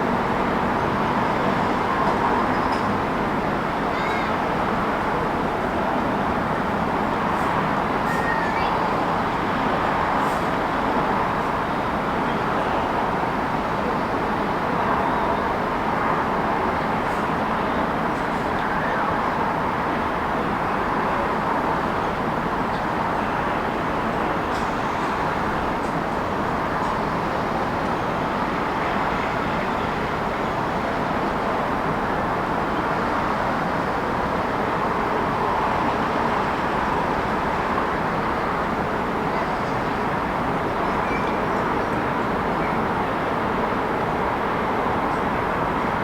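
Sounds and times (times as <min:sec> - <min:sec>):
traffic noise: 0:00.0 - 0:46.0.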